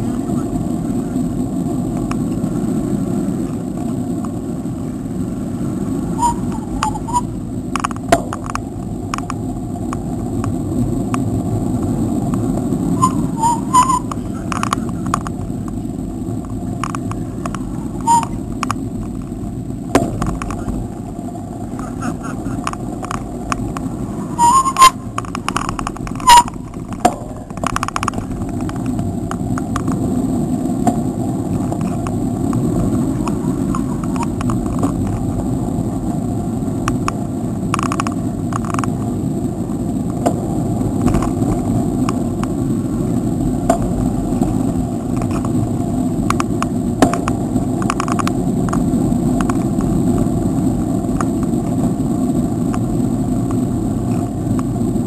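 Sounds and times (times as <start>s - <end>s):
bicycle rolling noise: 0.0s - 55.0s
wind on microphone: 0.0s - 55.0s.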